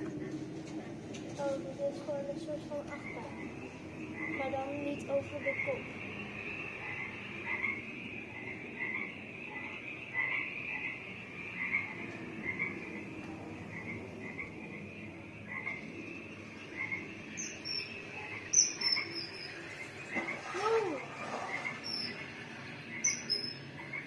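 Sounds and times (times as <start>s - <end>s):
frogs croaking: 0.0s - 24.0s
low steady background noise: 0.0s - 24.0s.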